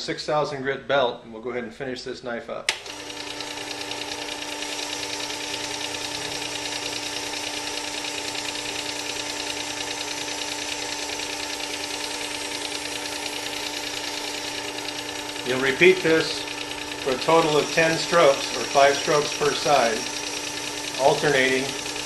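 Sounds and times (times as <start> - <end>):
sharpener motor humming: 2.7 - 22.0.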